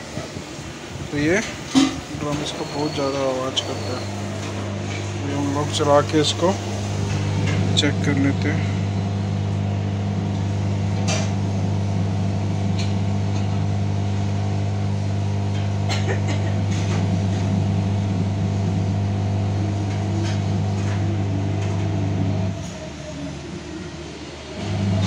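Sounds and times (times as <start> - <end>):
washing machine drum hum: 1.3 - 22.6, 24.6 - 25.0.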